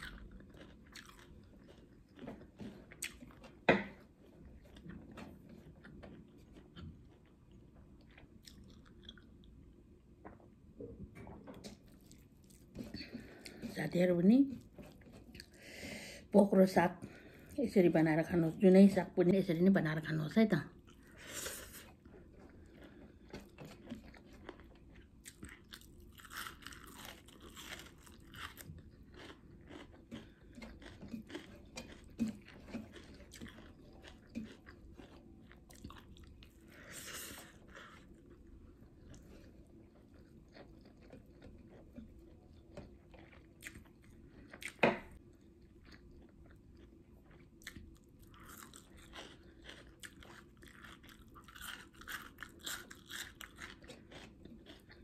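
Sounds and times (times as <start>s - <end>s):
chewing with wet mouth sounds: 0.0s - 10.6s, 11.6s - 13.9s, 14.5s - 15.6s, 20.7s - 55.0s.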